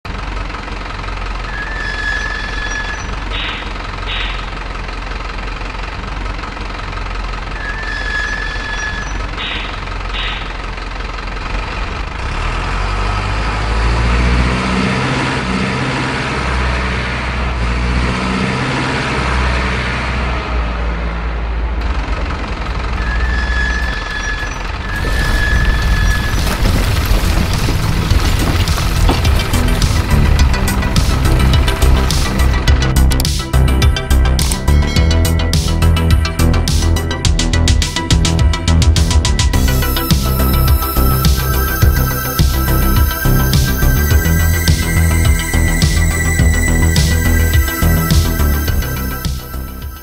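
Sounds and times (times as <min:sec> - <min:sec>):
simulated diesel truck engine rumble: 0:00.0 - 0:50.0.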